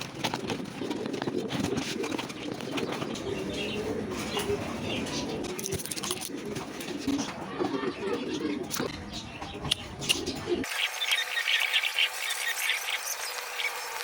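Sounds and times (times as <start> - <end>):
wings fluttering: 0.0 - 7.8, 9.6 - 14.0
pigeons cooing: 0.0 - 14.0.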